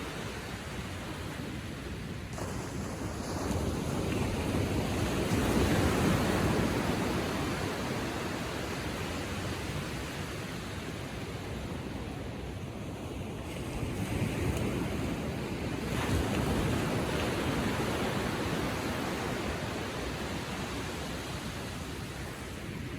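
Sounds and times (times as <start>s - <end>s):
waves lapping on shore: 0.0s - 22.9s.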